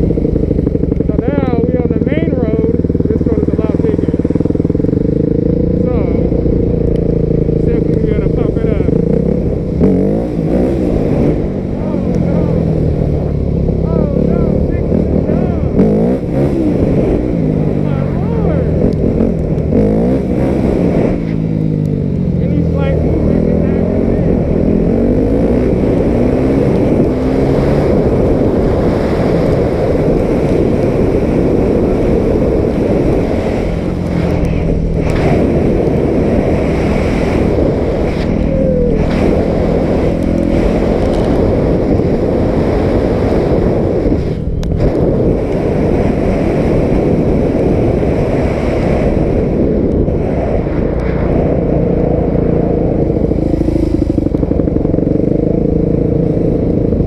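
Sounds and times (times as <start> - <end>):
dirt bike engine revving: 0.0 - 57.0
wind noise on microphone: 0.0 - 57.0.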